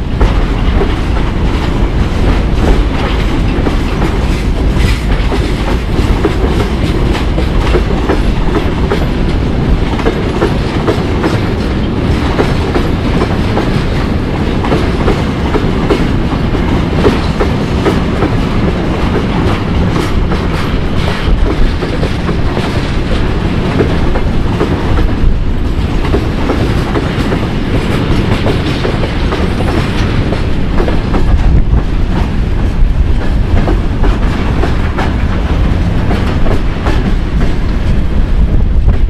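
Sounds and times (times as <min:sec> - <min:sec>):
wheels clacking over rail joints: 0:00.0 - 0:39.0.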